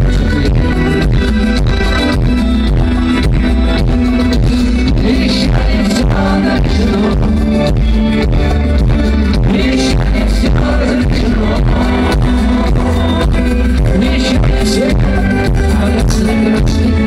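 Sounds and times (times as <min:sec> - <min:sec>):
rock band playing live: 0:00.0 - 0:17.0
drum beat: 0:00.4 - 0:16.7.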